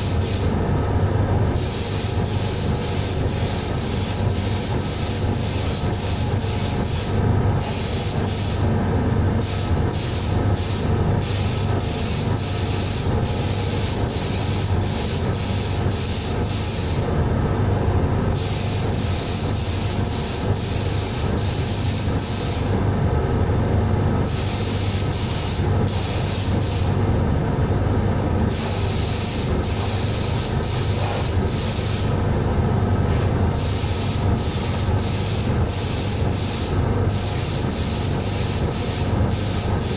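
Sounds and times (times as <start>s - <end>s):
compressed air gun hissing: 0.0s - 0.6s, 1.5s - 8.8s, 9.4s - 17.2s, 18.3s - 22.8s, 24.3s - 27.0s, 28.5s - 32.2s, 33.0s - 39.9s
air compressor humming: 0.0s - 39.9s.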